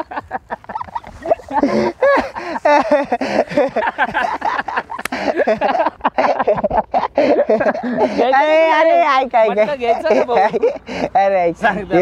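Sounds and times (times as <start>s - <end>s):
men shouting and talking: 0.0s - 12.0s.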